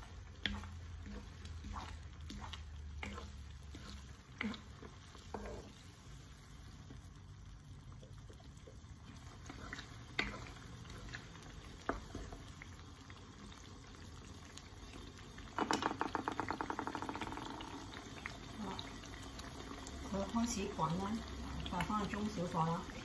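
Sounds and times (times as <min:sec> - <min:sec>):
sauce bubbling in a frying pan: 0:00.0 - 0:23.0.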